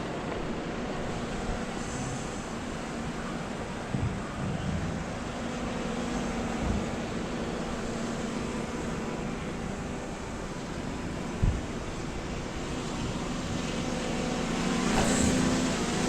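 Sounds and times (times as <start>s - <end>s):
distant road traffic: 0.0s - 16.0s
wind: 0.0s - 16.0s.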